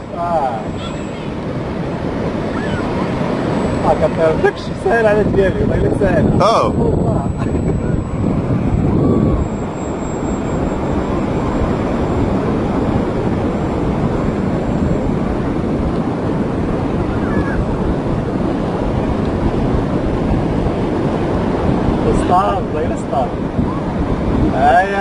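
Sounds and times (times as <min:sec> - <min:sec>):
faint high thin whine: 0:00.0 - 0:25.0
sea surf rushing: 0:00.0 - 0:25.0
wind on microphone: 0:00.0 - 0:25.0.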